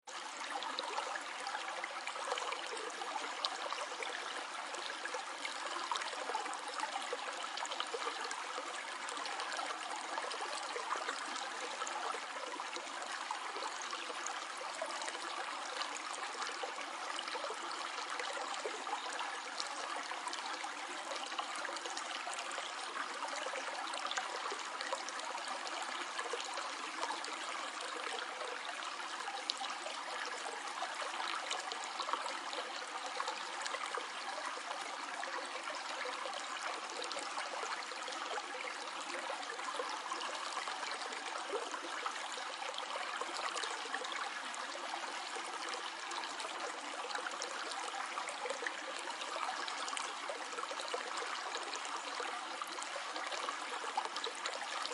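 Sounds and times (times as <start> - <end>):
shallow stream babbling: 0.1 - 54.9.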